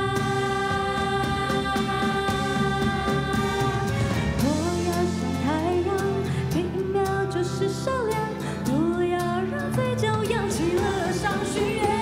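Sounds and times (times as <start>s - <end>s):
live band with keyboards: 0.0s - 12.0s
woman singing into microphone: 0.0s - 12.0s.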